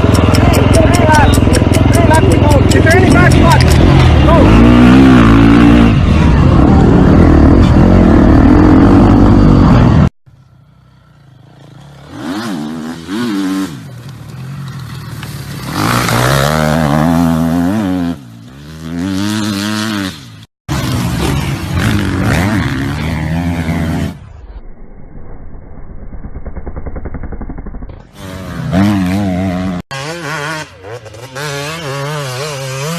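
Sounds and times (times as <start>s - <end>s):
motocross motorcycle engines revving: 0.0s - 24.4s, 26.9s - 32.9s.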